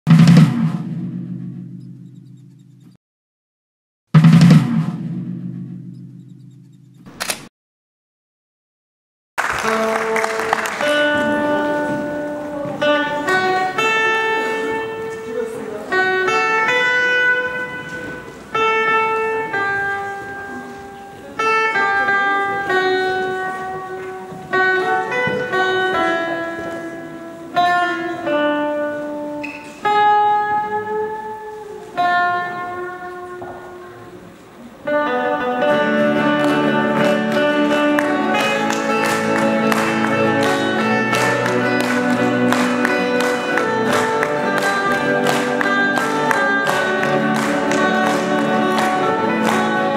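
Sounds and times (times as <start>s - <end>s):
acoustic guitar playing: 9.4s - 49.9s.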